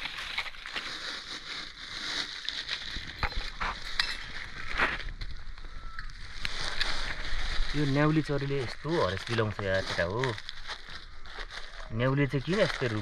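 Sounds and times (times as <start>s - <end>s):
crackling and crunching: 0.0s - 13.0s.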